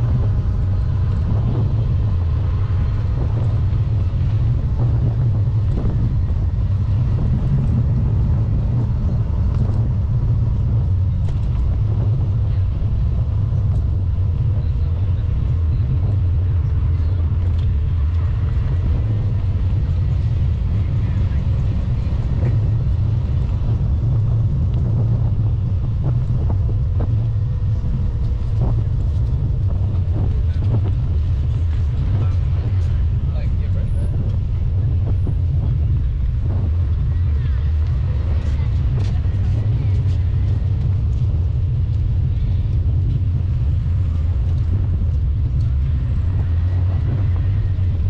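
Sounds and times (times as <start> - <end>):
bicycle rumbling on concrete: 0.0 - 48.0.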